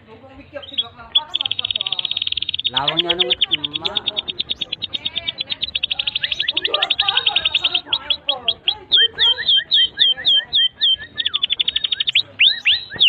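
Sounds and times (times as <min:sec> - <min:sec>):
canary trilling: 0:00.0 - 0:13.0.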